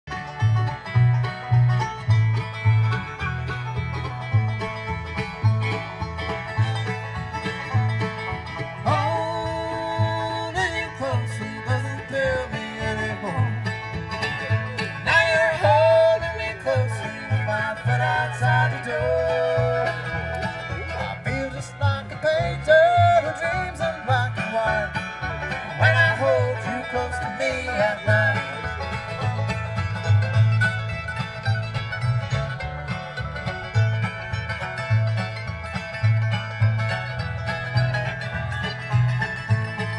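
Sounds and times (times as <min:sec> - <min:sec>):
banjo: 0:00.0 - 0:39.9
bass beat: 0:00.1 - 0:39.9
bluegrass band playing live: 0:00.1 - 0:39.9
sliding lead melody: 0:00.1 - 0:39.9.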